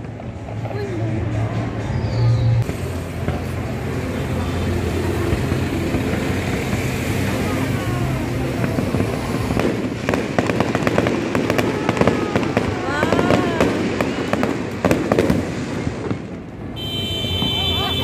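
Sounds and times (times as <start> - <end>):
low drone of road traffic: 0.0 - 18.0
fireworks crackling pops: 2.5 - 18.0.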